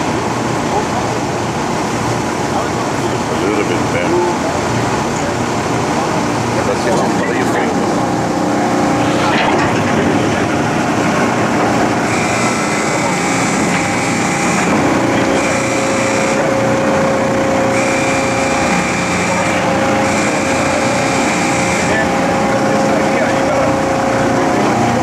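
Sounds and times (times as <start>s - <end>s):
crane machinery running: 0.0s - 25.0s
high machine whine: 0.0s - 25.0s.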